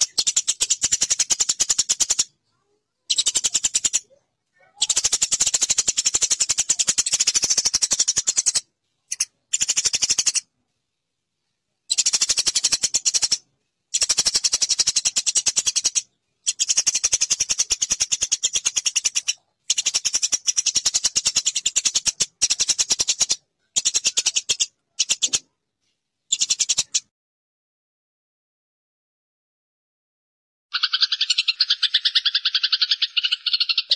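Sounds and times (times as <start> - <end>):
sparrows chattering: 0.0 - 10.5, 11.9 - 25.5, 26.3 - 27.1, 30.7 - 33.9.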